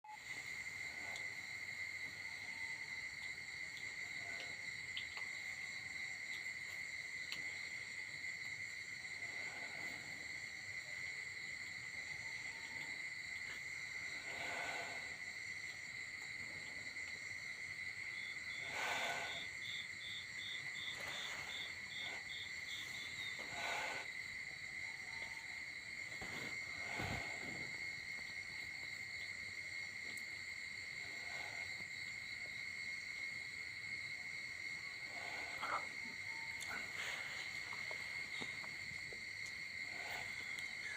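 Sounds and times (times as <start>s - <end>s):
insect chorus trilling: 0.0s - 40.9s.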